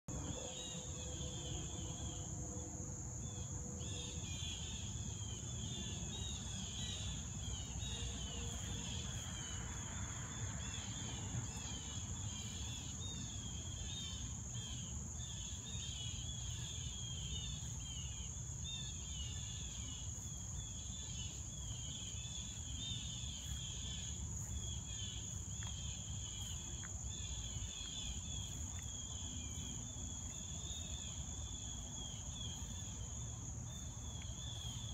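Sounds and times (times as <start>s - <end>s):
rapid insect chirping: 0.1s - 34.9s.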